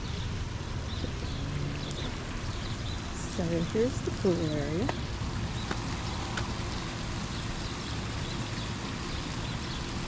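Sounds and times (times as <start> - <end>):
faint steady hum: 0.0 - 10.0
steady hiss: 0.0 - 10.0.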